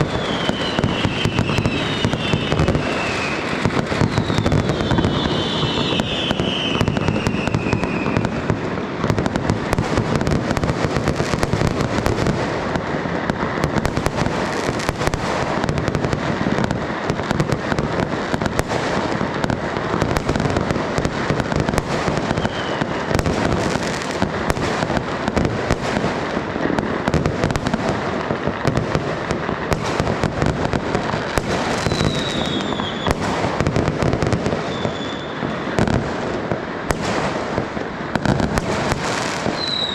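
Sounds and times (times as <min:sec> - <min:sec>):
falling firework whistles: 0:00.0 - 0:12.7, 0:13.3 - 0:26.1, 0:29.7 - 0:36.3, 0:36.9 - 0:39.9
fireworks and firecrackers banging: 0:00.0 - 0:39.9.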